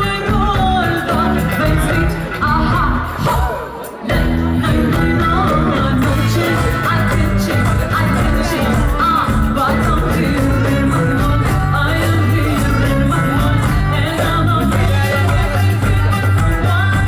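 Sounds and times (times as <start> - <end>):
live band playing amplified music: 0.0 - 17.0.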